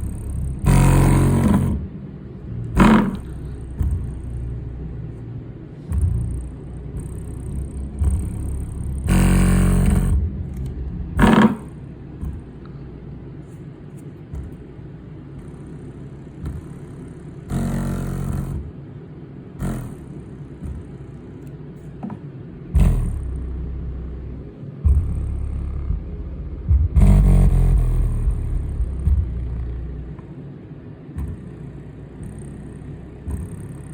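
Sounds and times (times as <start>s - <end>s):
buzzy bass hits: 0.0s - 18.9s, 19.6s - 21.4s, 22.0s - 30.3s, 31.1s - 33.9s
woofer playing deep bass: 0.0s - 30.4s, 31.0s - 33.9s.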